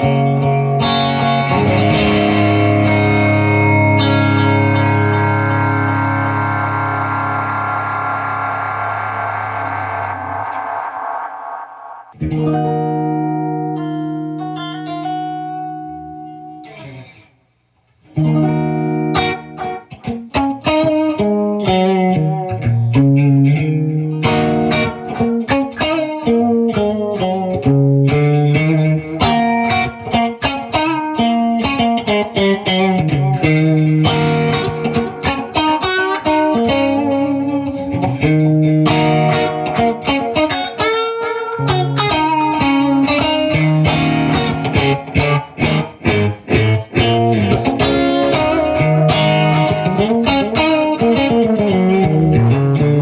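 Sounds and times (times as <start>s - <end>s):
electric guitar with echo: 0.0s - 17.3s, 18.0s - 53.0s.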